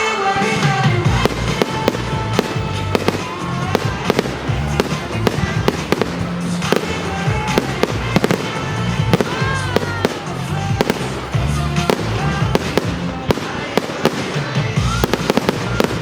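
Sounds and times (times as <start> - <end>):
pop music with bass: 0.0 - 16.0
fireworks bangs and crackles: 0.4 - 16.0.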